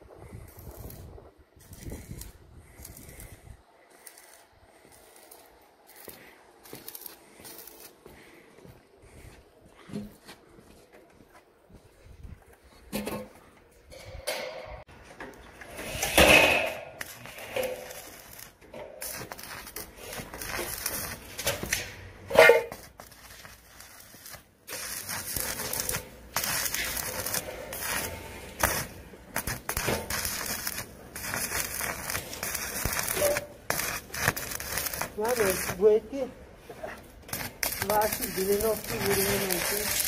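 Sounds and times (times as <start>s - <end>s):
arc welder crackling and sizzling: 0.0s - 8.3s, 15.3s - 40.0s.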